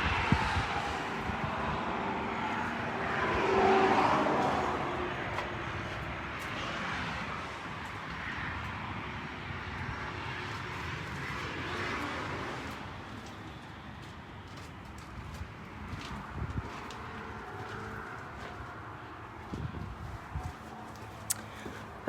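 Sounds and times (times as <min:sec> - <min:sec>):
passing vehicle rumble: 0:00.0 - 0:22.0.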